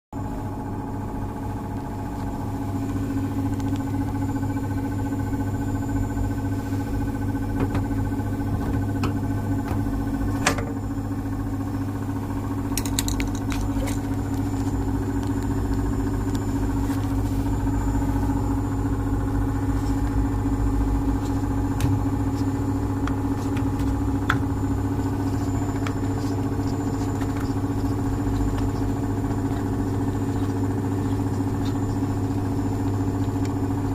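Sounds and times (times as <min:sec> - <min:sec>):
washing machine drain pump humming: 0:00.2 - 0:33.9.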